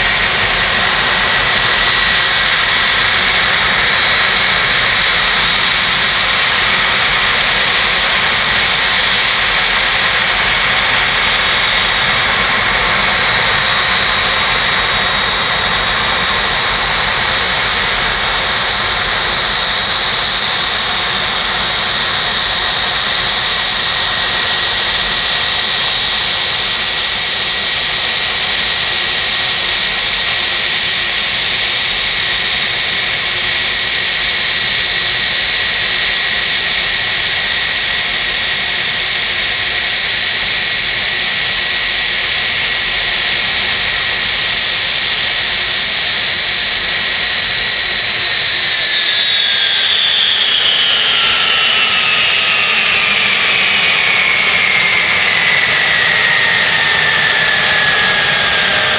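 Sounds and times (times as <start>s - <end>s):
jet engines at taxi power: 0.0s - 58.9s.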